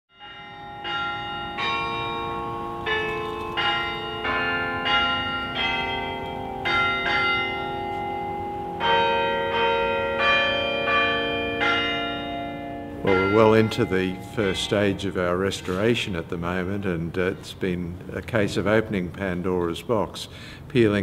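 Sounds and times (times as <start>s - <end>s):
church bells ringing: 0.1s - 19.7s.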